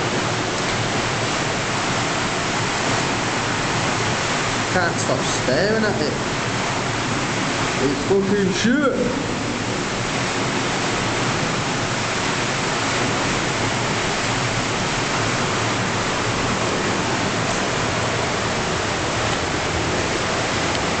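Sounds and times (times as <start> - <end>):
sewage water rushing: 0.0 - 21.0.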